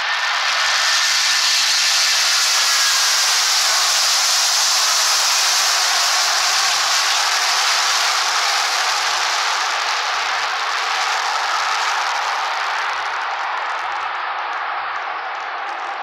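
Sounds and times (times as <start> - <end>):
jet engines roaring at takeoff: 0.0 - 13.2.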